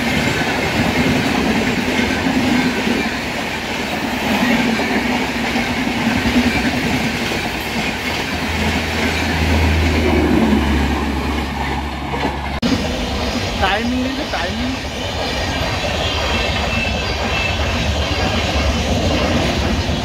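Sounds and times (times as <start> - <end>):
clickety-clack over rail joints: 0.0 - 20.0
train coaches rushing past: 0.0 - 20.0.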